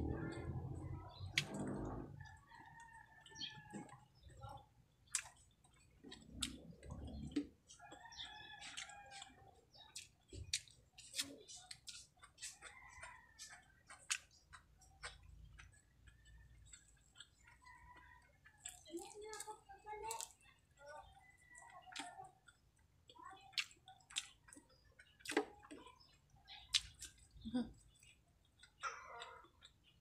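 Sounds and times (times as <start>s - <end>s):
chewing and lip smacks: 0.1s - 30.0s.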